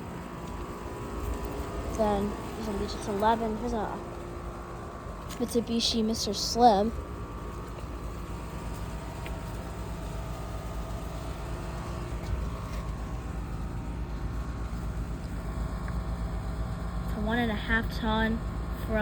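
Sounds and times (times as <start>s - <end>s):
air conditioner units humming: 0.0s - 19.0s.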